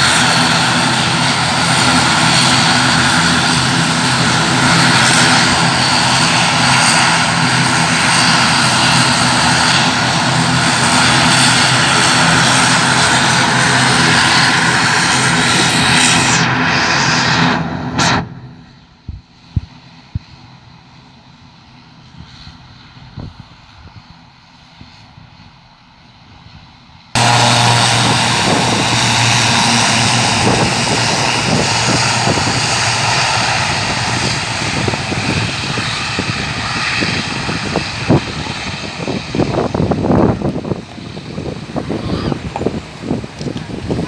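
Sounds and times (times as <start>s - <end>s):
aircraft engines running: 0.0s - 44.0s.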